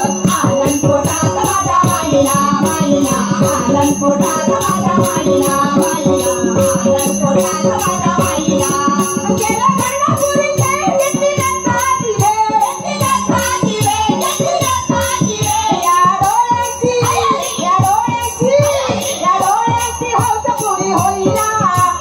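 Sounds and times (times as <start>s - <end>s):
voices singing: 0.0s - 22.0s.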